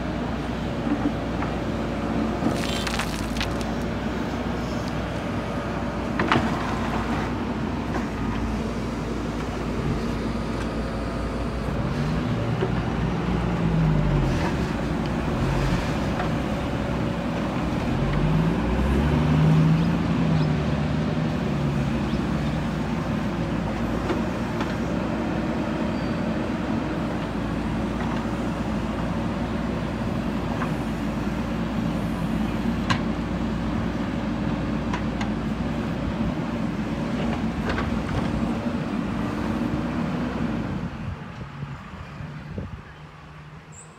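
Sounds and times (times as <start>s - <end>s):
diesel engine running under load: 0.0s - 43.5s.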